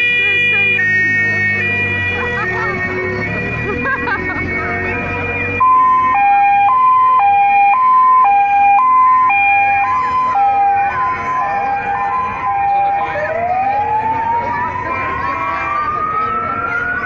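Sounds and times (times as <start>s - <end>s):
second siren rising in pitch: 0.0s - 17.0s
two-tone siren: 0.0s - 17.0s.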